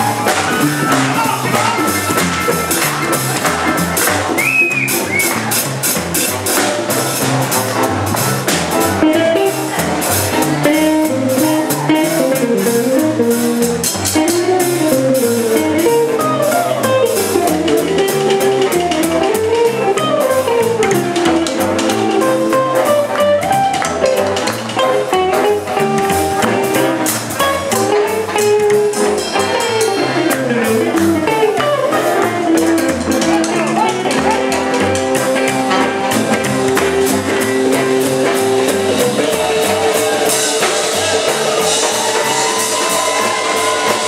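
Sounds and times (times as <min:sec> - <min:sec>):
electric guitar solo: 0:00.0 - 0:05.7, 0:09.0 - 0:44.0
swinging drums with cymbals: 0:00.0 - 0:44.0
walking bass line: 0:00.0 - 0:44.0.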